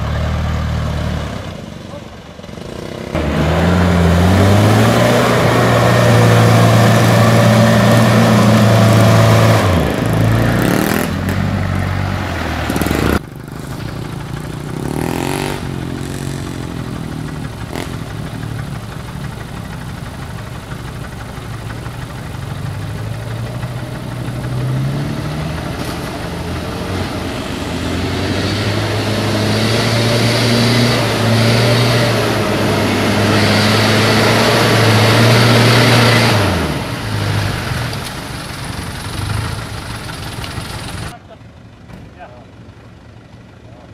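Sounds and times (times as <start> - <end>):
truck diesel engines revving: 0.0 - 43.9.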